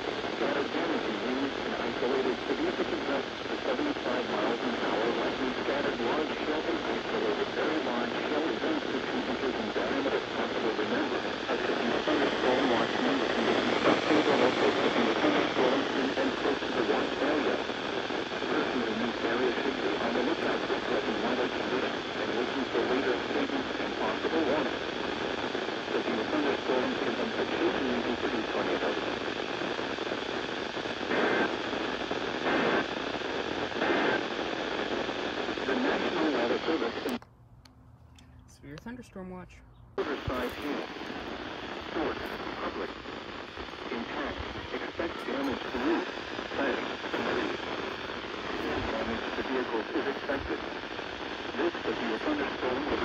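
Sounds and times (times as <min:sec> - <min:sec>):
radio static hiss: 0:00.0 - 0:37.2, 0:38.2 - 0:53.0
voice over radio: 0:00.0 - 0:37.2, 0:38.4 - 0:53.0.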